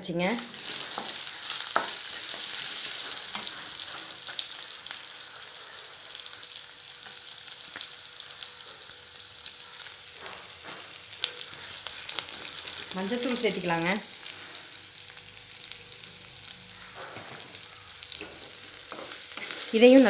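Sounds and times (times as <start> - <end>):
onion sizzling in oil: 0.0 - 20.0.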